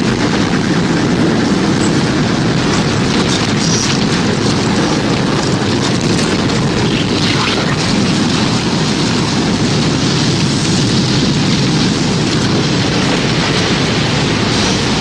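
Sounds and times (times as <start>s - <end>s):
heavy rain: 0.0s - 15.0s
roar of wind: 0.0s - 15.0s.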